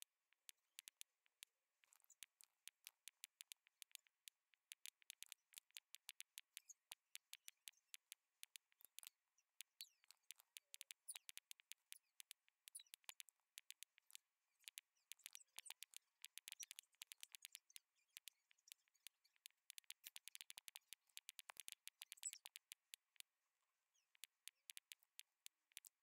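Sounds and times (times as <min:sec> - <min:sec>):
computer mouse clicking: 0:01.8 - 0:23.2, 0:24.1 - 0:26.0.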